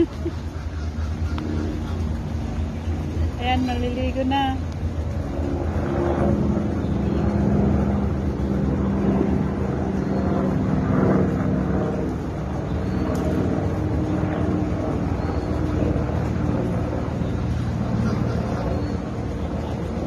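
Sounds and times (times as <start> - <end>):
low mechanical hum: 0.0 - 20.0
noisy rumble: 0.0 - 20.0.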